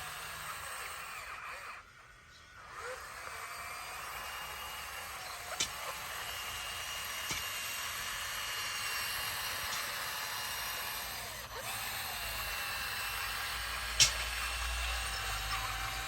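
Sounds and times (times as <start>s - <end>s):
distant bulldozer running: 2.6s - 16.0s.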